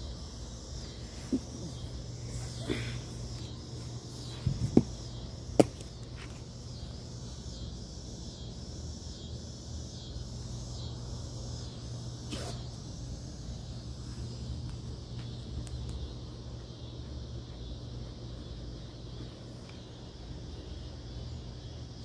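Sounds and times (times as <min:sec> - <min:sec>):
pulsing insect chorus: 0:00.0 - 0:22.0
steady low hum: 0:00.0 - 0:22.0.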